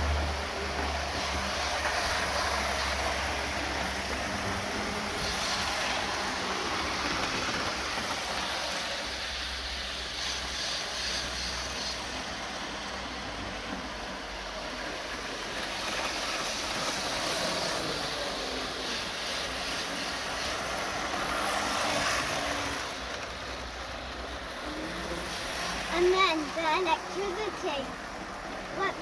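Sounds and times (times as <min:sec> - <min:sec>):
model trains whirring: 0:00.0 - 0:29.0.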